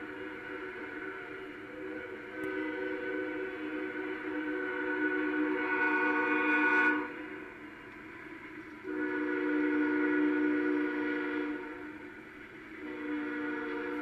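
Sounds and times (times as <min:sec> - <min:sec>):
locomotive air horn blasts: 0:00.0 - 0:07.8, 0:08.7 - 0:12.1, 0:12.8 - 0:14.0.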